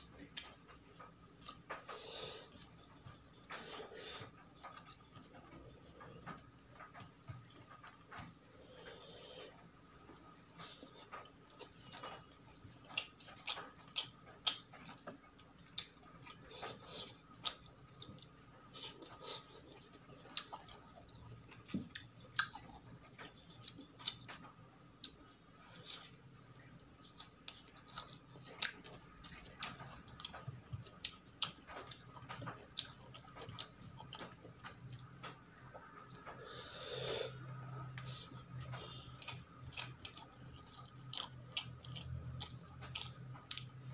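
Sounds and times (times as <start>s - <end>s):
person chewing with mouth smacks: 0.0s - 35.4s, 36.1s - 43.9s.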